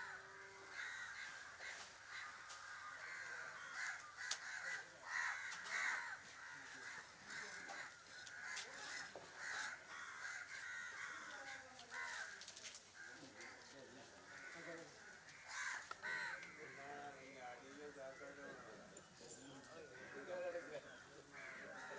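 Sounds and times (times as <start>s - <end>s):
crows cawing: 0.0s - 18.9s, 19.6s - 21.9s.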